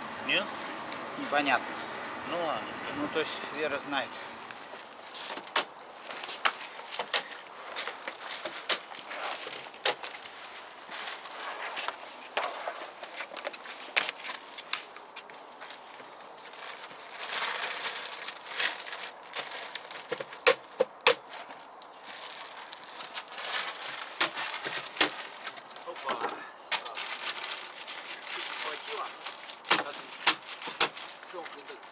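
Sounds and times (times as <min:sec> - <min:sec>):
rustling and crinkling: 0:03.2 - 0:31.9.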